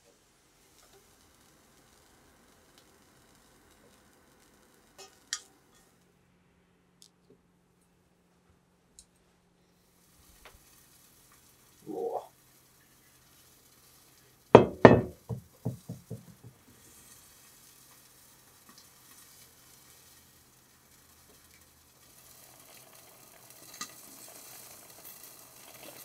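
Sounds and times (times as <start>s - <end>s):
faint simmering: 0.0s - 6.2s, 8.9s - 26.0s.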